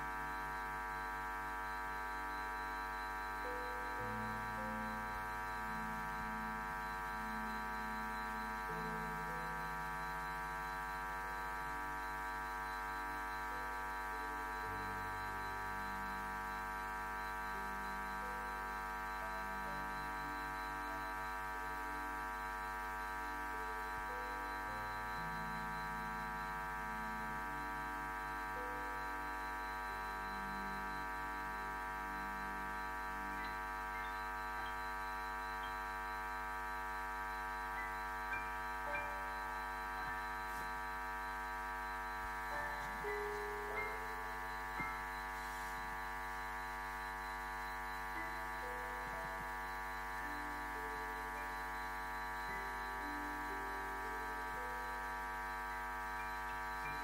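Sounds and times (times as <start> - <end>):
soft ambient instrumental music: 0.1 - 57.0.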